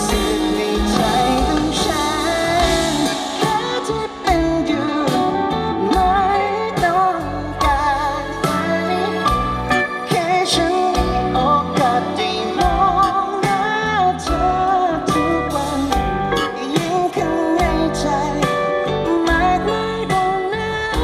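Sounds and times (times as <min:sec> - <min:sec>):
steady drum beat: 0:00.0 - 0:18.6
lead vocal singing: 0:00.0 - 0:21.0
pop band playing: 0:00.0 - 0:21.0.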